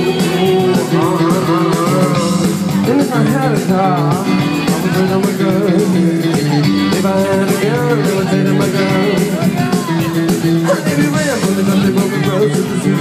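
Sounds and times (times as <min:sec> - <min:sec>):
live rock band over pa: 0:00.0 - 0:13.0.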